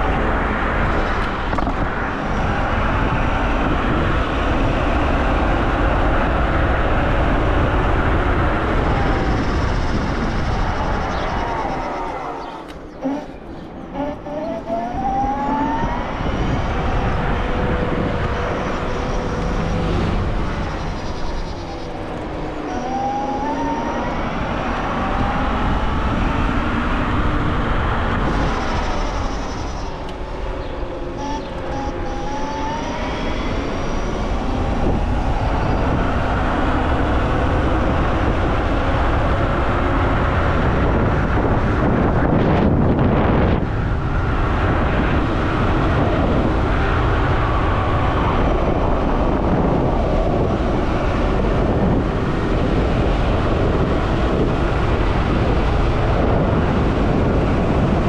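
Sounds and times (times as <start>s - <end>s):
electric scooter motor whining: 0.0s - 58.0s
wind and road noise: 0.0s - 58.0s.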